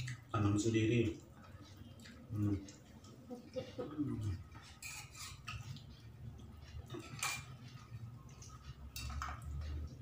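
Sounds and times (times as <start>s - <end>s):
person chewing fried fish: 1.2s - 10.0s.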